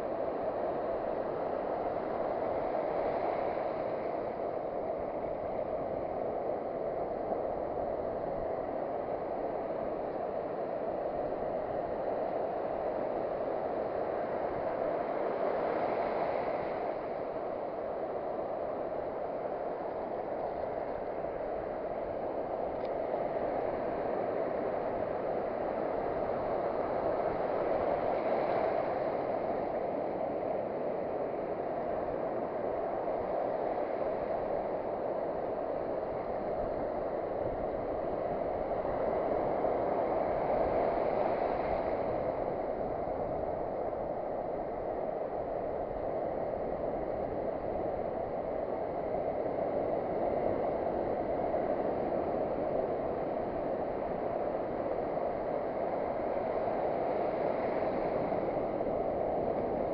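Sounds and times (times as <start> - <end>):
sea surf on a beach: 0.0 - 59.9.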